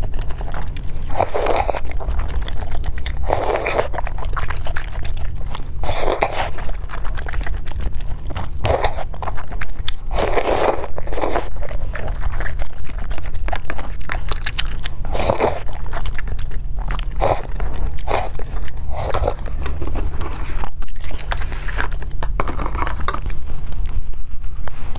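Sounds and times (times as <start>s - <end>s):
close chewing with wet mouth noises: 0.0s - 24.9s
steady low hum: 0.0s - 24.9s.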